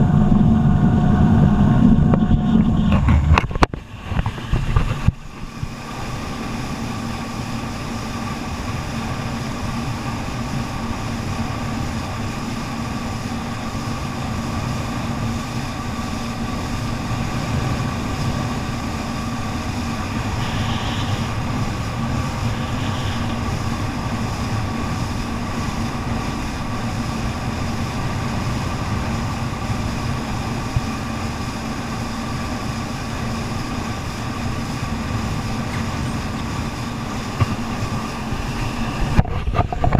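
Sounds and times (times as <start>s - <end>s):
jet ski engine drone: 0.0s - 39.9s.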